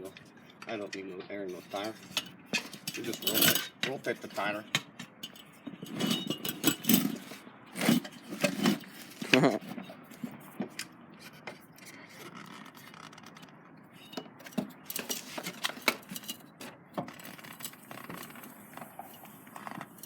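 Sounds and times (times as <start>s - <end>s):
sharp knocks and creaks: 0.0s - 20.0s
rubber scraping against metal: 0.9s - 20.0s.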